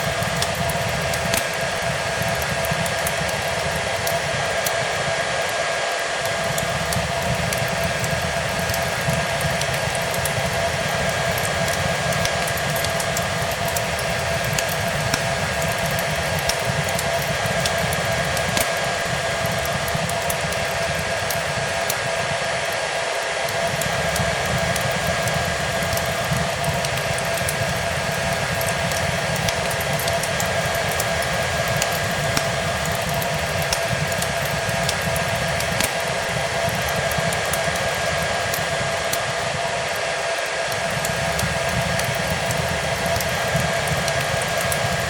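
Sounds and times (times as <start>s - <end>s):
hair dryer running: 0.0s - 45.0s
wood fire crackling: 0.0s - 45.0s.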